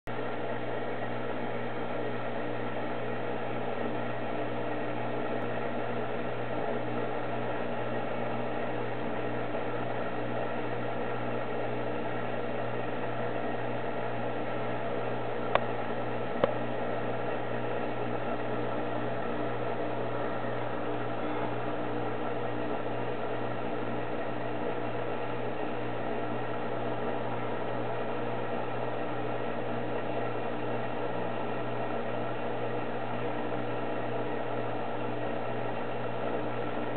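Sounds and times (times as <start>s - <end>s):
aquarium pumps humming: 0.1s - 36.9s.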